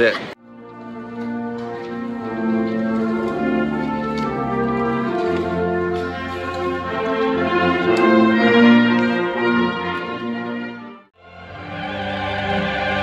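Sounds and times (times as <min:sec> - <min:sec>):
brass ensemble slow chords: 0:00.4 - 0:13.0.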